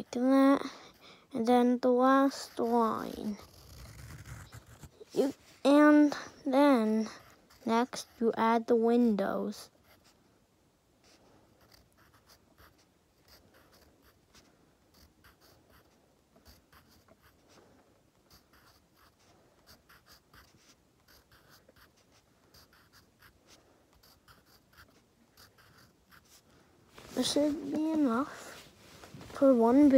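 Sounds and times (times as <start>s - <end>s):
pencil scratching on paper: 0.0s - 10.2s, 11.0s - 26.5s.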